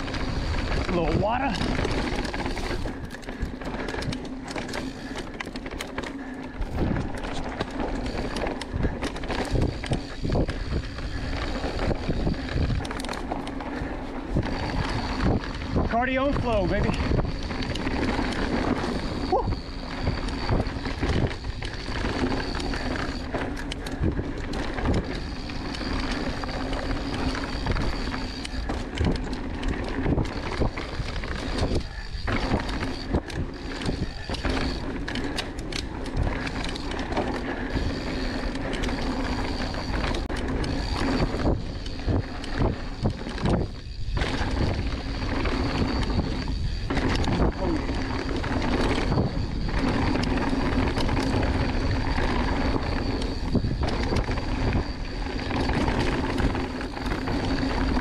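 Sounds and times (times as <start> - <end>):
bike knocks and rattles: 0.0 - 58.0
bike tyres rolling on dirt: 0.0 - 58.0.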